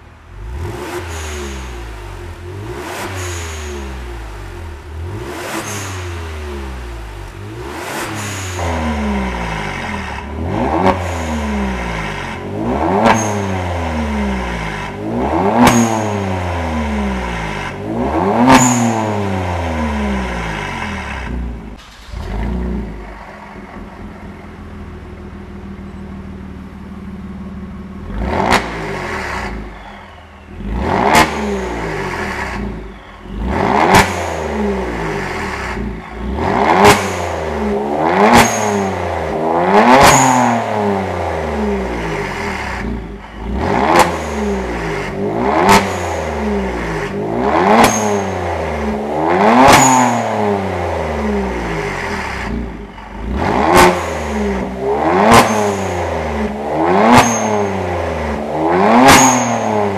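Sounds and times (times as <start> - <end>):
car engine idling: 0.0 - 59.9
car engine revving: 0.0 - 59.9
exhaust crack: 0.0 - 59.9.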